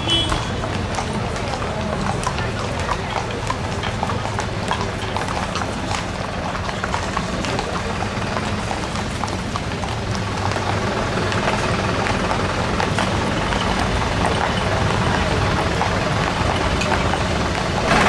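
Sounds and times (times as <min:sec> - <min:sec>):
horse hooves clip-clopping on asphalt: 0:00.0 - 0:18.0.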